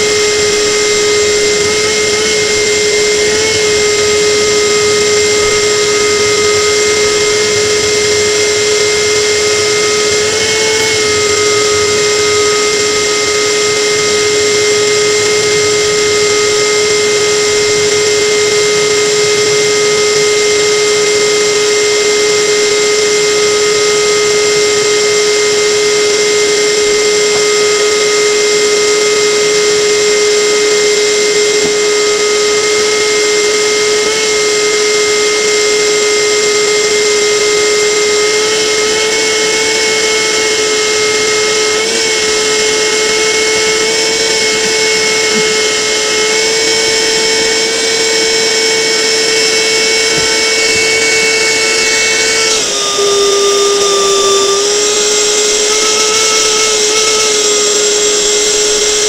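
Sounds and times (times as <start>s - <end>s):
machine motor whining: 0.0s - 59.0s.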